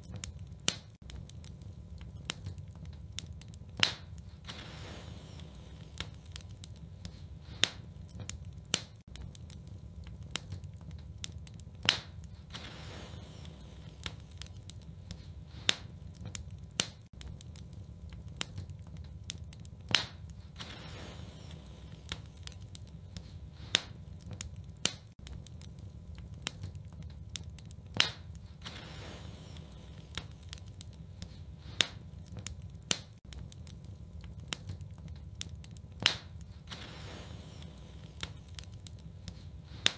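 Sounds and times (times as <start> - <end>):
sharp snaps and pops: 0.0 - 39.9
wood fire crackling: 0.0 - 39.9.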